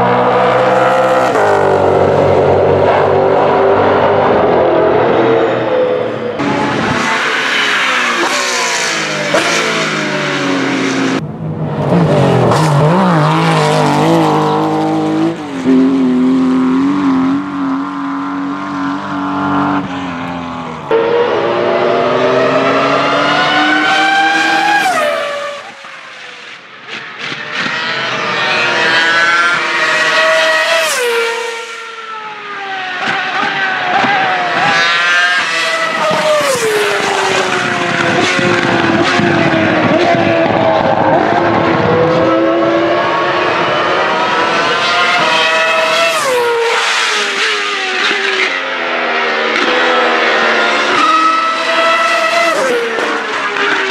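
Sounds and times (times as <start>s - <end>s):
race car engine at high revs: 0.0s - 53.9s.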